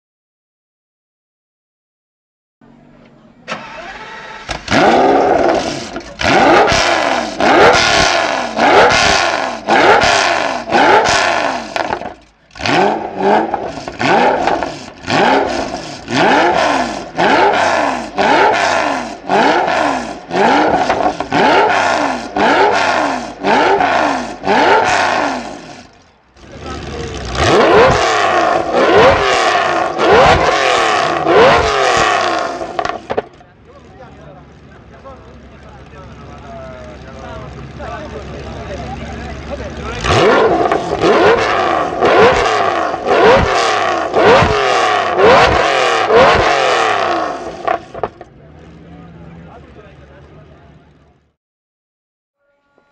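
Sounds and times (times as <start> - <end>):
sports car engine revving: 2.6 - 51.2.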